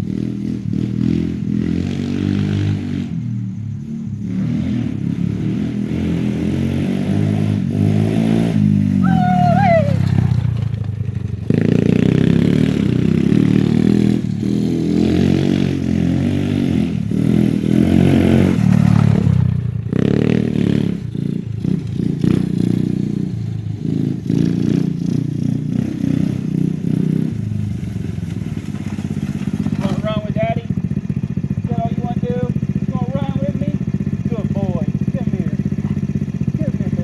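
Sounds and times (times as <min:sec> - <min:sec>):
atv engine revving: 0:00.0 - 0:37.0.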